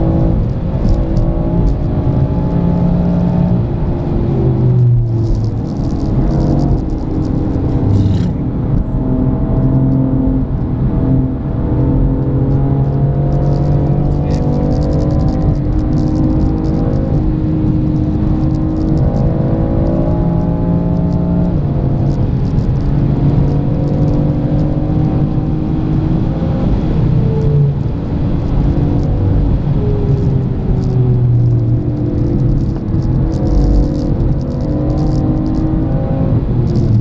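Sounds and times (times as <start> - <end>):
car engine revving in cabin: 0.0 - 37.0
tyre and road noise: 0.0 - 37.0.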